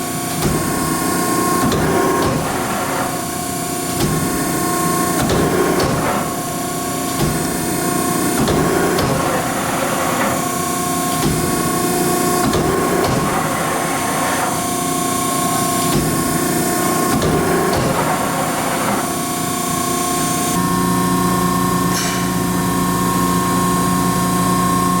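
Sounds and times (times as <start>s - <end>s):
hydraulic pump hum and whine: 0.0s - 25.0s.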